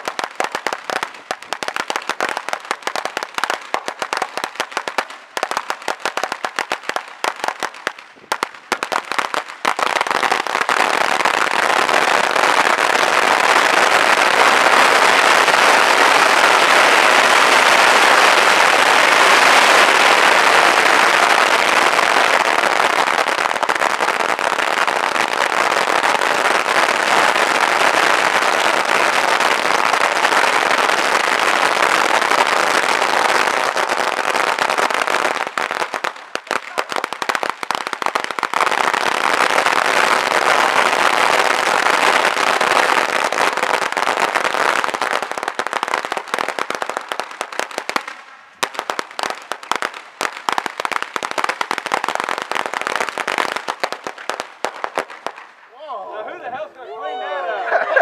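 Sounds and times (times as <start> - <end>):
firecracker string popping: 0.0 - 44.4, 45.0 - 55.8.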